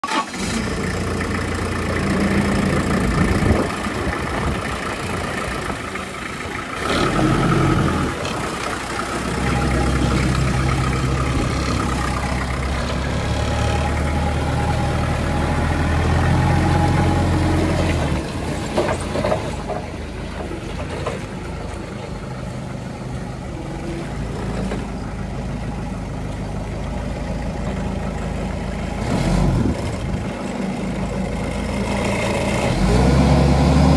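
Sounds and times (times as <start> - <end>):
forklift diesel engine running: 0.0 - 33.9.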